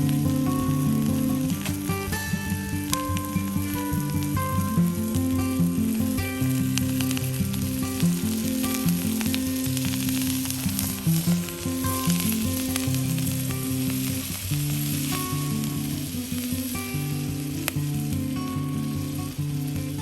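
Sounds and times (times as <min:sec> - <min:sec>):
meat sizzling with small pops: 0:00.0 - 0:20.0.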